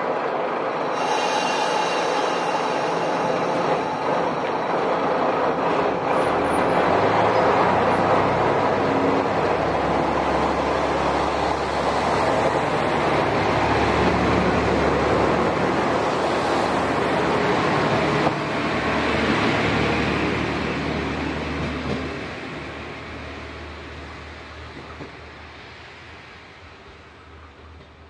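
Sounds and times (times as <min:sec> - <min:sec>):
diesel railcar passing: 0:00.0 - 0:28.0.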